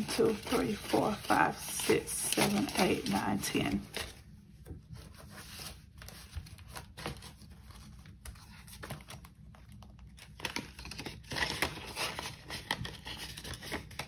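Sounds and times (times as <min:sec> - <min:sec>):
paper banknotes rustling: 0:00.0 - 0:04.2, 0:05.0 - 0:14.0.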